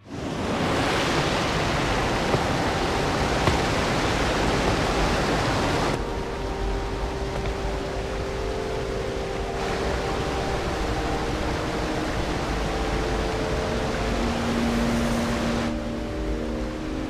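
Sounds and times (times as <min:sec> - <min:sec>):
waterfall rushing: 0:00.0 - 0:17.0
faint steady tone: 0:01.6 - 0:17.0.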